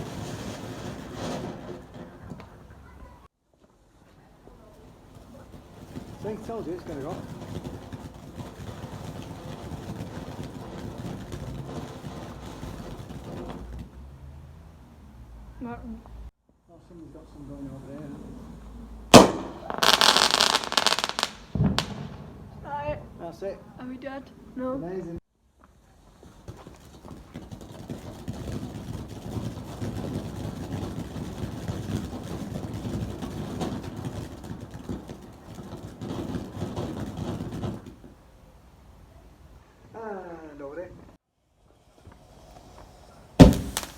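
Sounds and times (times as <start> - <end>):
firework burning with crackling hiss: 0.0 - 14.1, 16.9 - 24.0, 25.5 - 43.9.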